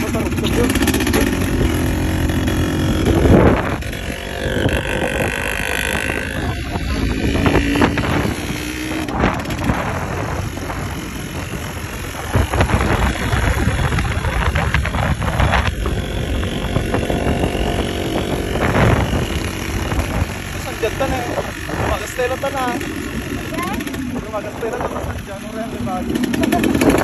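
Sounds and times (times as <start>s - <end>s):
vehicle rumbling and rattling: 0.0s - 27.0s
wind buffeting microphone: 0.0s - 27.0s.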